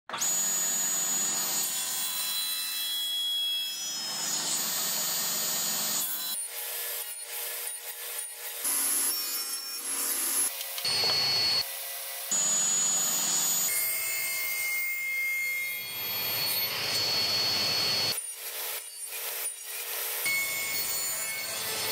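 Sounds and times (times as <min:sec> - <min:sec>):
table saw cutting wood: 0:00.1 - 0:21.9.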